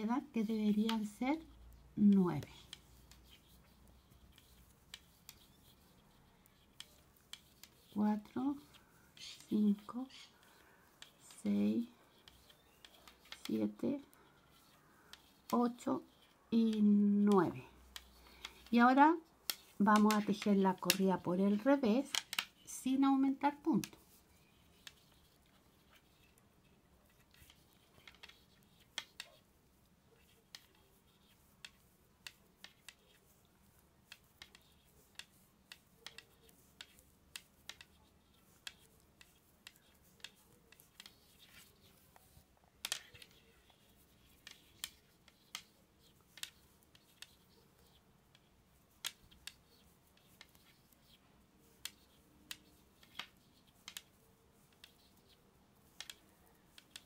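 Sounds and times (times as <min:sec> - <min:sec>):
knitting needles clicking: 0:00.0 - 0:57.0.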